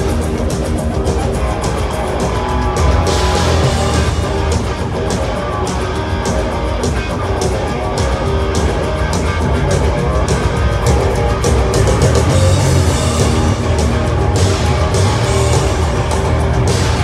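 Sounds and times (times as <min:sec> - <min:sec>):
bass guitar: 0:00.0 - 0:17.0
drums: 0:00.0 - 0:17.0
electric guitar riff: 0:00.0 - 0:17.0.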